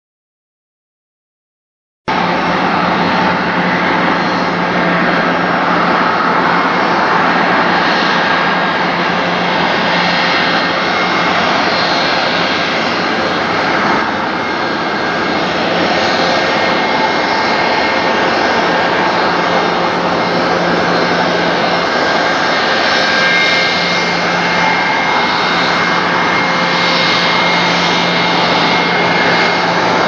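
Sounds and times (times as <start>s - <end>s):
jet engines whining: 2.1s - 30.0s.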